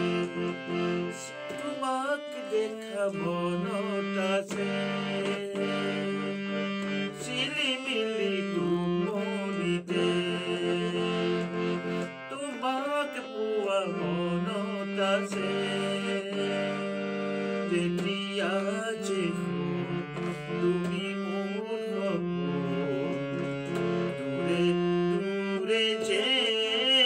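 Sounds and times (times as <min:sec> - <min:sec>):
harmonium chords: 0:00.0 - 0:27.0
man singing: 0:00.0 - 0:27.0.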